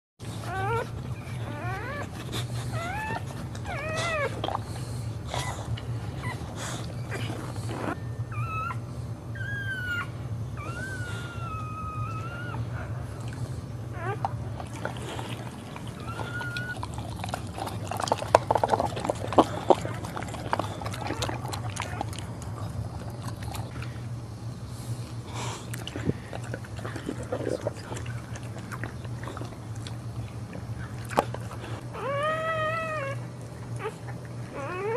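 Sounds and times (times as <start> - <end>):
dog whining: 0.2 - 4.6, 5.3 - 24.2, 25.8 - 34.9
low steady hum: 0.2 - 34.9.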